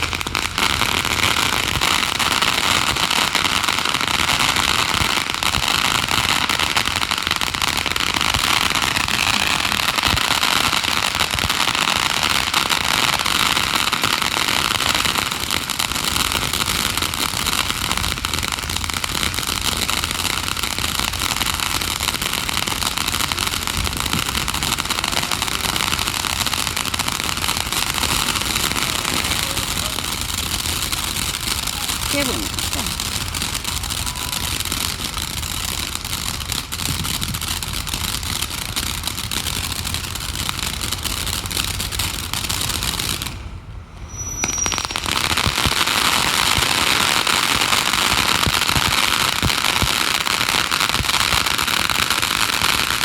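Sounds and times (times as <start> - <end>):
fireworks crackling: 0.0 - 53.0.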